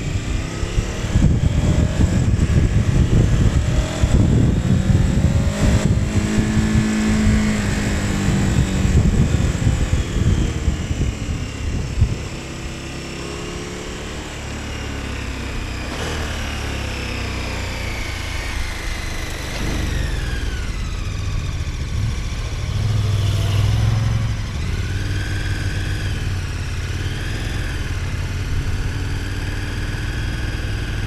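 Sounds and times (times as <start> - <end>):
motorcycle engine riding: 0.0 - 31.0.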